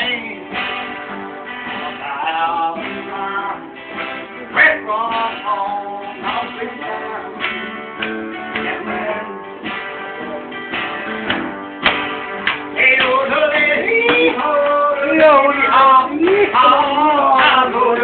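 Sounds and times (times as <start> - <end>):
acoustic guitars strumming: 0.0 - 18.0.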